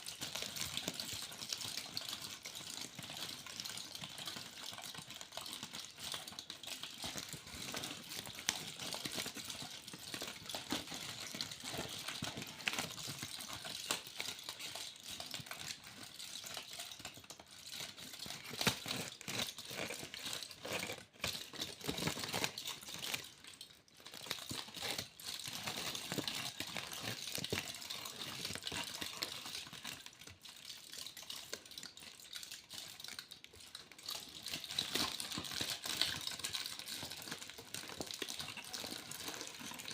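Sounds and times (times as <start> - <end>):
aluminium foil crinkling: 0.0 - 39.9.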